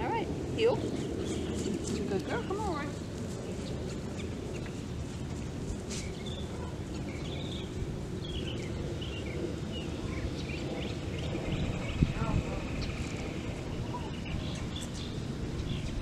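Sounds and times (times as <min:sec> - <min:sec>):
low outdoor background noise: 0:00.0 - 0:16.0.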